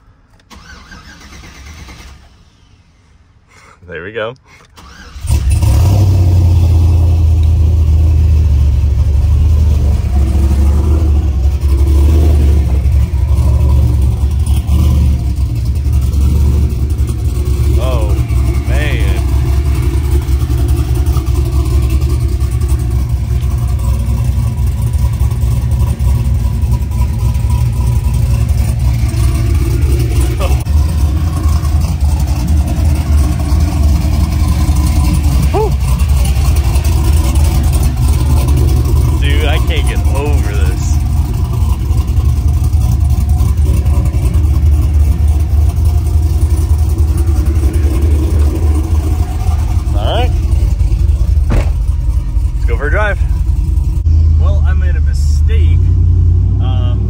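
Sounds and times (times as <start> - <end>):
truck engine choppy rumble: 0.0 - 57.0.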